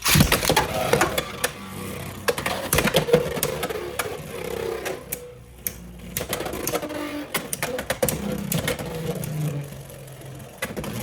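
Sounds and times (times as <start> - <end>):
spinning hum: 0.0 - 11.0.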